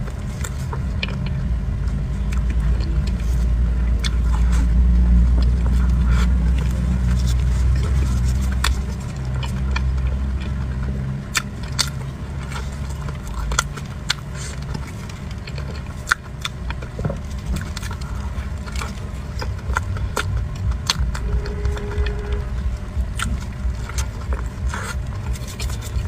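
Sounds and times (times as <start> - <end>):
low rumble: 0.0 - 26.0
mouth chewing close up: 0.1 - 26.0.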